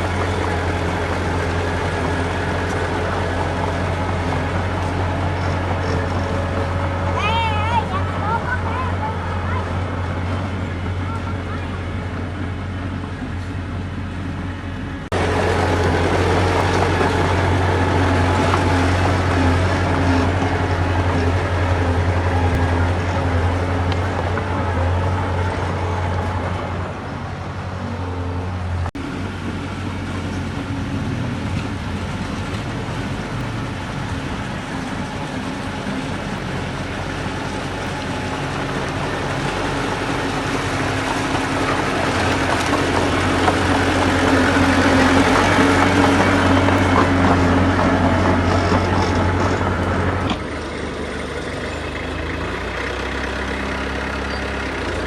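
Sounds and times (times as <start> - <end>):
heavy diesel machinery running: 0.0 - 55.0
work noise: 0.0 - 55.0.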